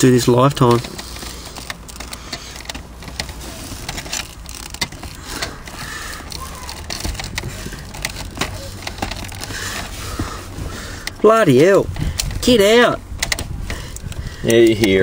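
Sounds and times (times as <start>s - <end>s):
plastic clicks and rattles: 0.3s - 10.3s, 11.0s - 15.0s.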